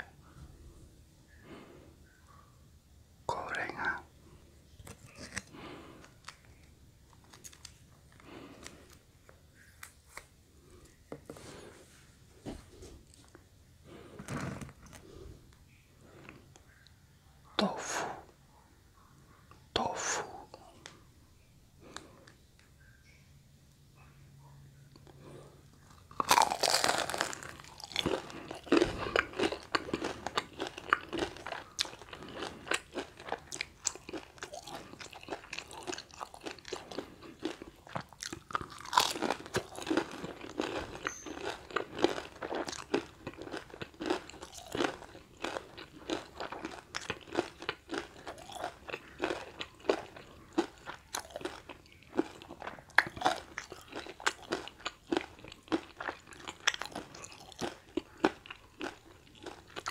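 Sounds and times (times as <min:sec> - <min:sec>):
crunching and chewing fried food: 0:03.3 - 0:11.7, 0:13.0 - 0:17.0, 0:21.8 - 0:22.9, 0:24.8 - 0:59.9.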